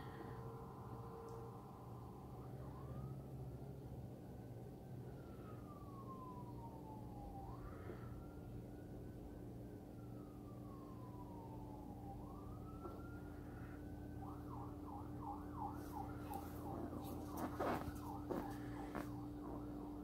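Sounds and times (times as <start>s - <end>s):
faint emergency siren: 0.0s - 20.0s
steady low hum: 0.0s - 20.0s.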